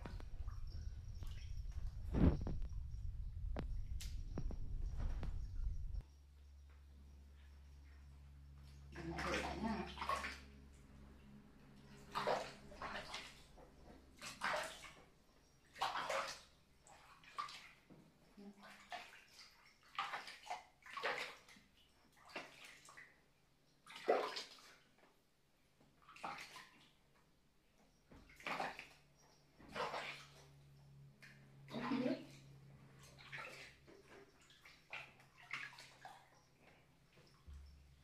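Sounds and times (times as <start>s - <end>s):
water splashing in a bath: 0.0s - 6.0s, 8.5s - 27.4s, 28.0s - 38.0s.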